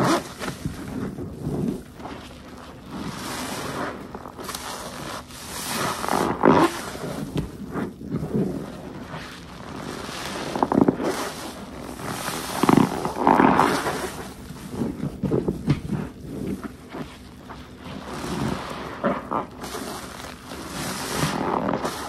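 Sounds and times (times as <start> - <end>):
sponge squelching with foam: 0.0 - 22.0.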